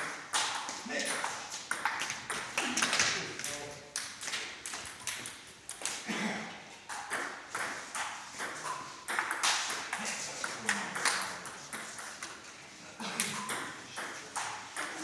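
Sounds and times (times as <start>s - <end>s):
table tennis ball rally: 0.0s - 6.0s, 6.8s - 15.0s.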